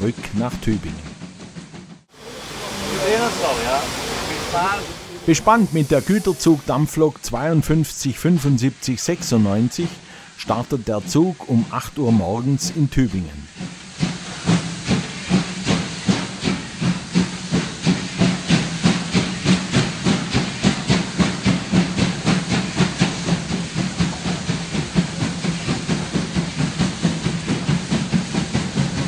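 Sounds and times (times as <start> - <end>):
steam locomotive exhaust chuffs: 0.0 - 29.0
steam hissing: 1.3 - 29.0.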